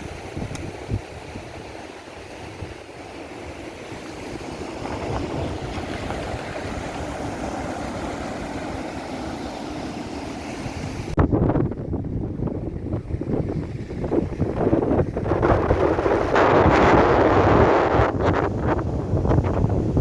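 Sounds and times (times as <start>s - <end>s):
sea surf rushing: 0.0s - 20.0s
wind: 0.0s - 20.0s.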